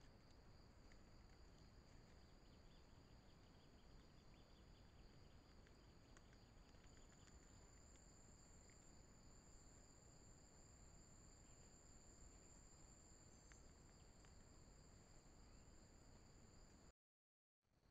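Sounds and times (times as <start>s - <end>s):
faint ticks: 0.0s - 11.4s, 12.2s - 16.9s
insect chirring: 0.0s - 16.9s.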